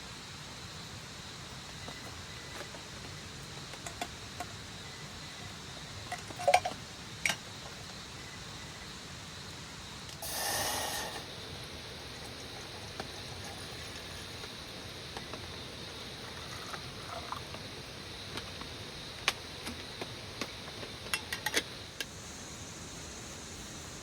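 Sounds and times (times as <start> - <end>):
rain falling in forest: 0.0 - 24.0.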